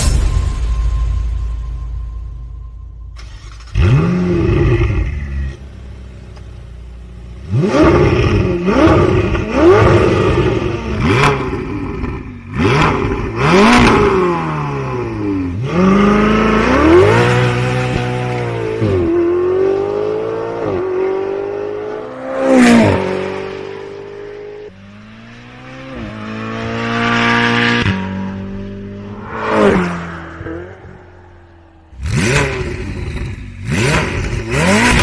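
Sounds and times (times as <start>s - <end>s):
car engine revving and idling: 3.2s - 35.0s.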